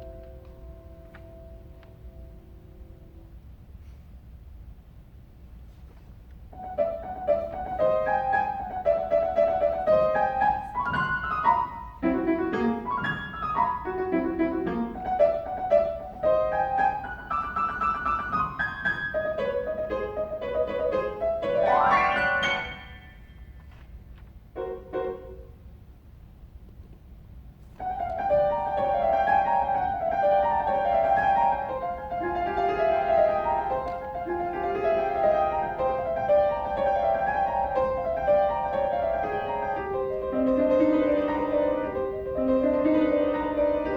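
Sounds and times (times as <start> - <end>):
piano playing classical piece: 0.0 - 3.5, 6.5 - 23.6, 24.4 - 25.8, 27.8 - 43.9.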